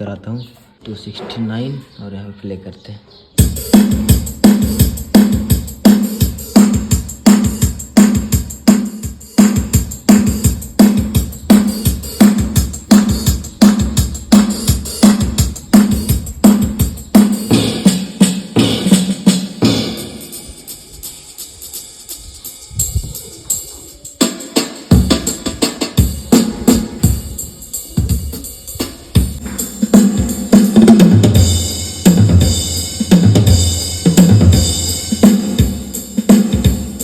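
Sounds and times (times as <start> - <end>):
drum rhythm pattern: 3.4 - 37.0.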